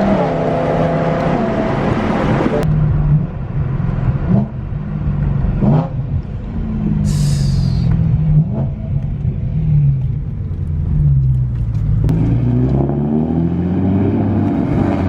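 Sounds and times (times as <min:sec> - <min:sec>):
sports car engine and exhaust: 0:00.0 - 0:15.0.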